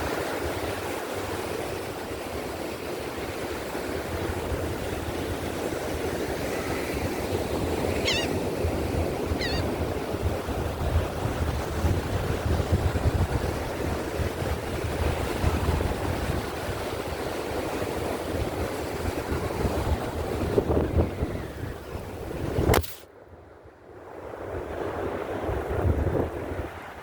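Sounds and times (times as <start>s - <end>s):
wind buffeting microphone: 3.8s - 22.8s, 24.0s - 27.0s.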